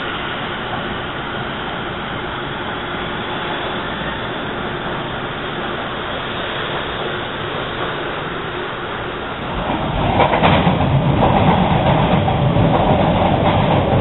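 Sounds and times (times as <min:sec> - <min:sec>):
subway train running: 0:00.0 - 0:14.0.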